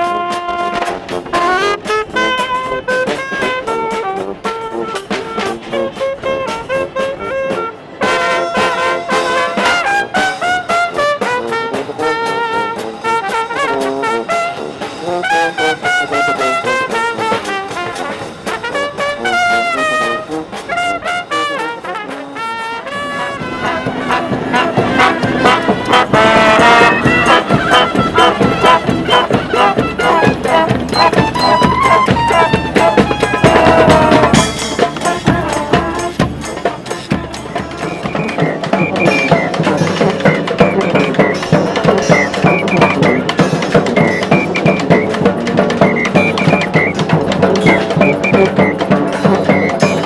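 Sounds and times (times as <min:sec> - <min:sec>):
brass band playing: 0:00.0 - 0:50.0
drums: 0:00.0 - 0:50.0.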